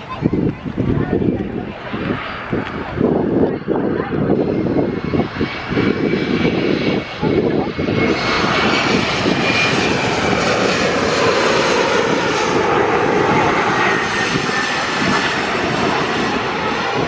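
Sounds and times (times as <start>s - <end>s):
airliner engines rushing: 0.0s - 17.0s.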